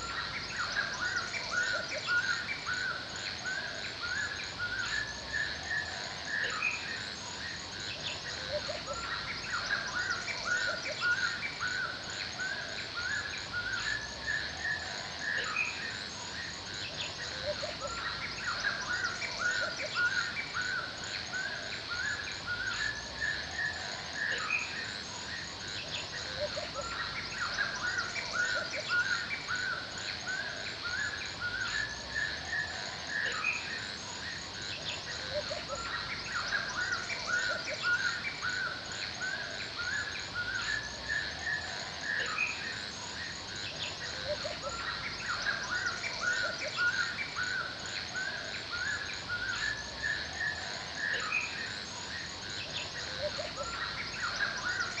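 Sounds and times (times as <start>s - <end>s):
birds chirping: 0.0s - 55.0s
insects chorus: 0.0s - 55.0s.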